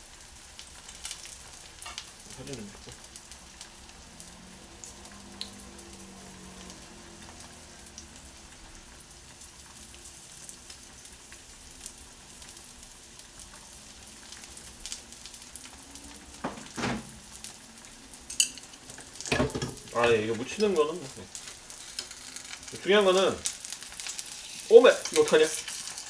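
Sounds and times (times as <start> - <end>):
chicken sizzling in a frying pan: 0.0 - 26.0.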